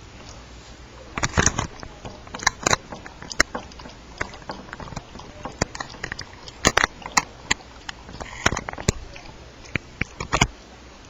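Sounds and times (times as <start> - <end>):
dog lapping milk: 1.1 - 10.5.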